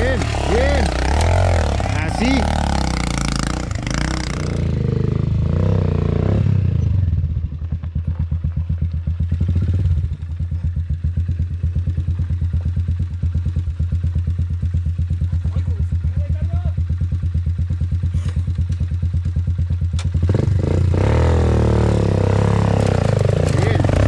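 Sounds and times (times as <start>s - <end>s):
dirt bike engine revving and idling: 0.0s - 24.0s.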